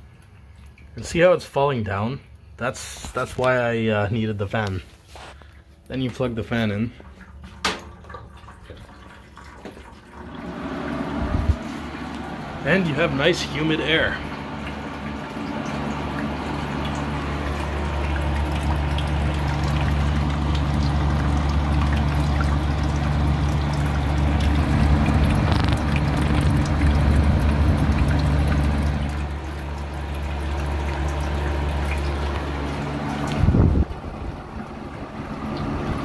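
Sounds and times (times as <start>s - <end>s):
fan motor hum: 0.0s - 36.0s
water pouring and trickling: 0.1s - 1.3s, 4.6s - 36.0s.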